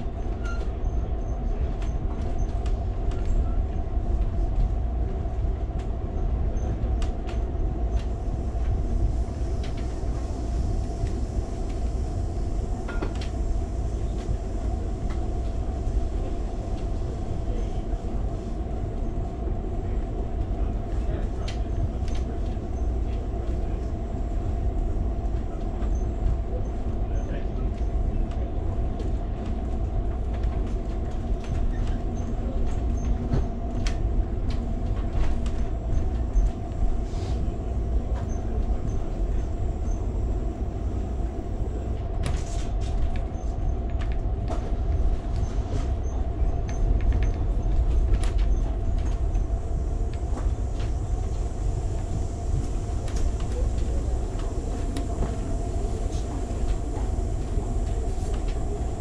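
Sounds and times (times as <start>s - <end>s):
constant hum: 0.0s - 59.0s
train wheels rumbling on rails: 0.0s - 59.0s.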